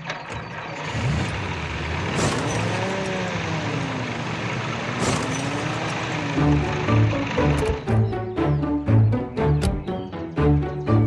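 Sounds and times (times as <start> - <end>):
cartoon truck engine running: 0.0 - 11.0.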